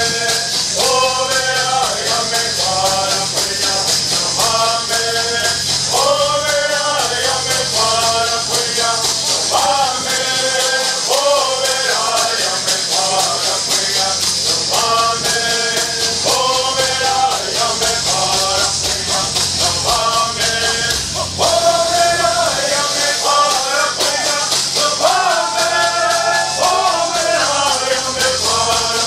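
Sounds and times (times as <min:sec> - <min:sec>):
gourd rattles shaking: 0:00.0 - 0:29.0
men singing in unison: 0:00.0 - 0:29.0.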